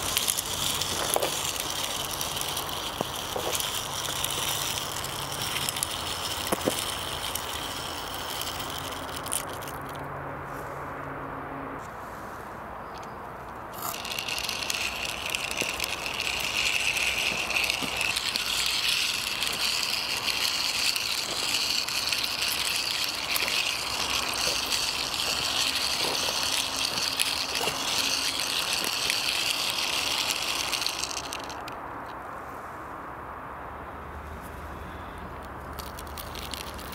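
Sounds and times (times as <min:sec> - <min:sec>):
toy car wheels rattling: 0:00.0 - 0:10.0, 0:13.0 - 0:31.8, 0:35.4 - 0:36.9.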